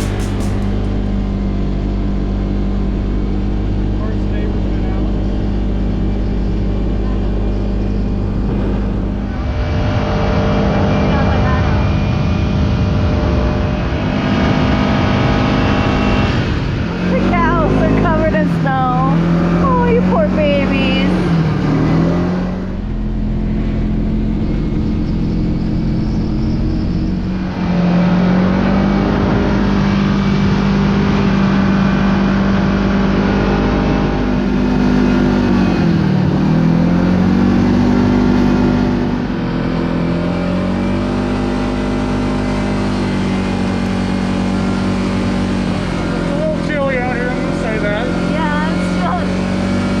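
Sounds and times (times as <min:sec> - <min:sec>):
off-road vehicle engine driving: 0:00.0 - 0:50.0.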